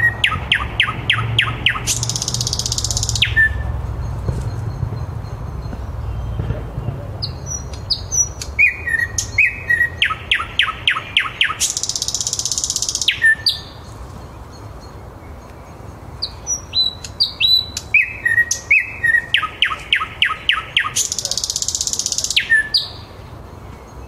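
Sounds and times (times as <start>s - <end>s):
thrush nightingale singing: 0.0s - 24.0s.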